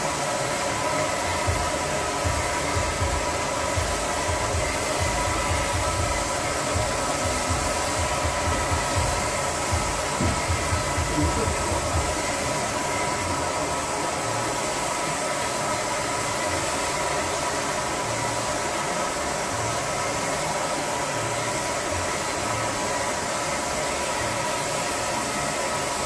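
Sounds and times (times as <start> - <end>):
turbine blower whining: 0.0 - 26.0.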